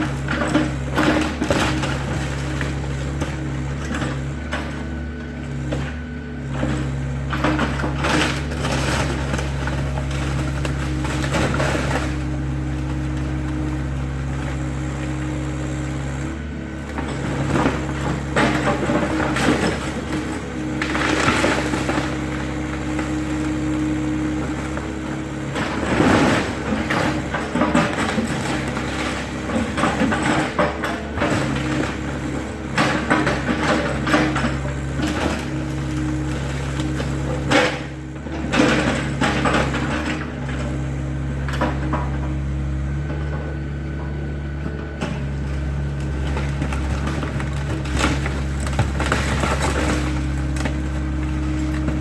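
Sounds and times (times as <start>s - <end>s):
structure crunching and cracking: 0.0s - 4.9s, 6.8s - 40.2s, 45.0s - 52.0s
excavator engine running: 0.0s - 52.0s.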